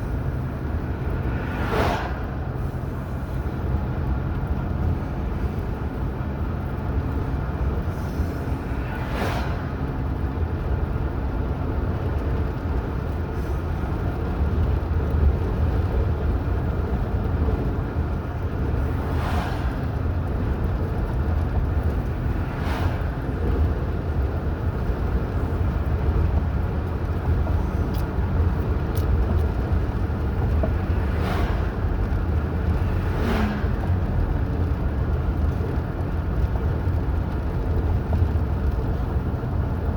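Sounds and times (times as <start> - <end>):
car engine and tyres on road: 0.0 - 39.9.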